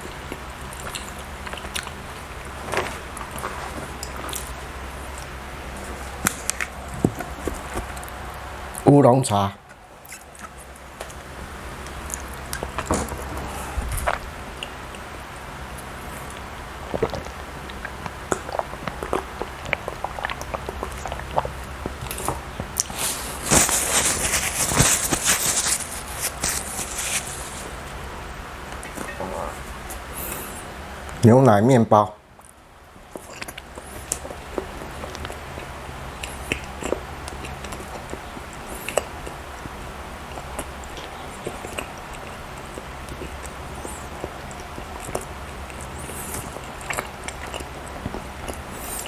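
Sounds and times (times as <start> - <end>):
person chewing soft cake: 0.0 - 8.8, 10.0 - 31.2, 32.4 - 49.0
crackling eating sounds: 0.0 - 31.4, 32.2 - 49.0.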